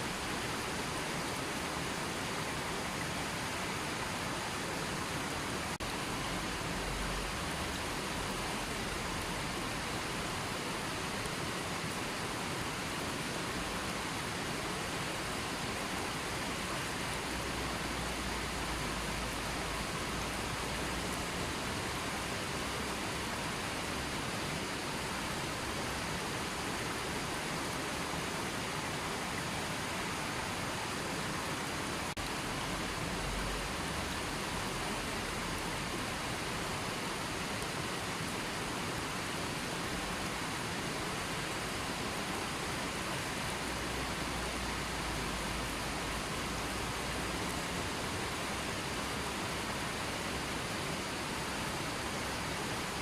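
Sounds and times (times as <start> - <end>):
river flowing: 0.0 - 53.0.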